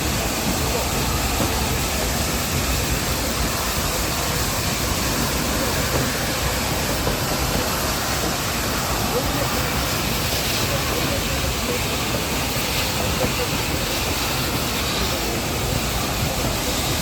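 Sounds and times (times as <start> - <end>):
toy train running: 0.0 - 17.0.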